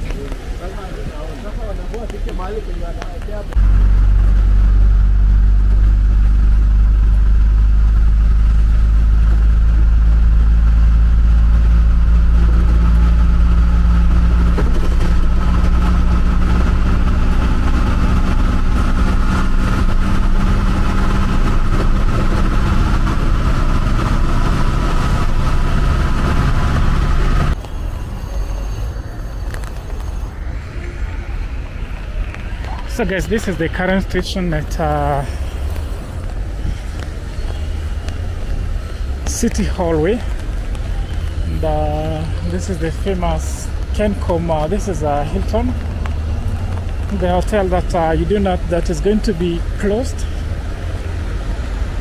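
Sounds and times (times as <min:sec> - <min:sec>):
street traffic: 0:00.0 - 0:52.0
vehicle engine running: 0:01.9 - 0:28.0, 0:28.8 - 0:52.0.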